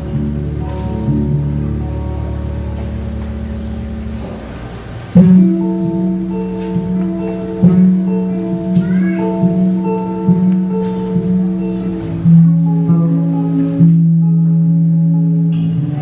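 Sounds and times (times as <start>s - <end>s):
electric bass fingerstyle: 0.0s - 16.0s.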